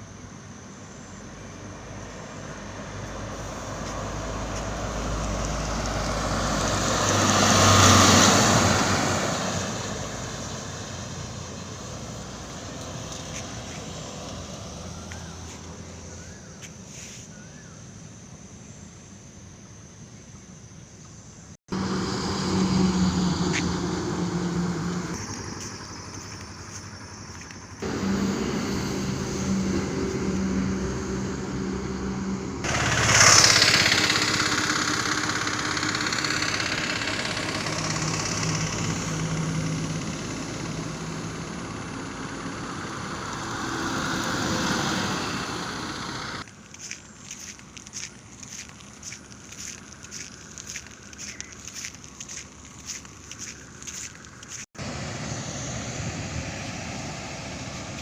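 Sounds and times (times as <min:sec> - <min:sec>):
heavy trucks on highway: 0:00.0 - 0:19.5, 0:21.2 - 0:58.0
truck passing close: 0:00.7 - 0:17.2, 0:21.7 - 0:58.0.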